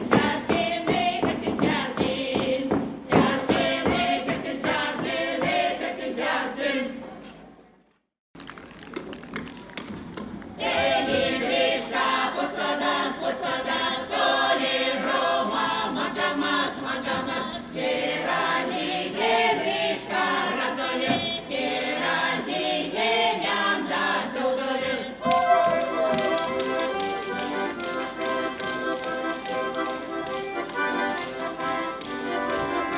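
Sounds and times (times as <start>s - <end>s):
folk choir singing: 0.0s - 7.2s, 10.6s - 32.9s.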